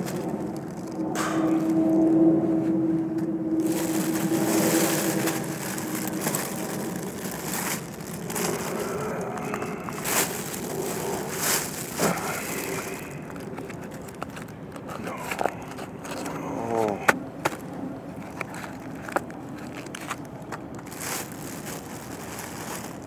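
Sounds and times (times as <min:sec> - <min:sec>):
plastic bag rustling and crinkling: 0:00.0 - 0:02.2, 0:03.5 - 0:23.0
steady low tone: 0:00.0 - 0:23.0.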